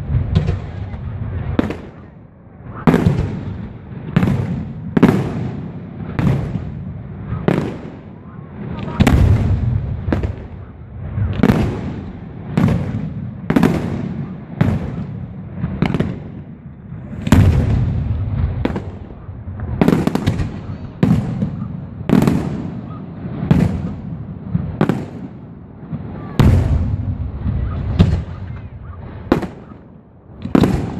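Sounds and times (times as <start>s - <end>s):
fireworks bursting with echo: 0.0s - 30.9s.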